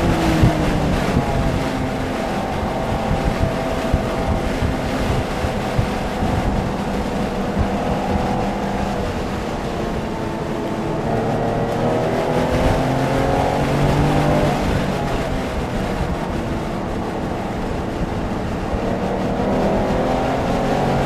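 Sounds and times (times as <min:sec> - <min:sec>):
car engine at speed: 0:00.0 - 0:21.0
tyre and wind noise: 0:00.0 - 0:21.0.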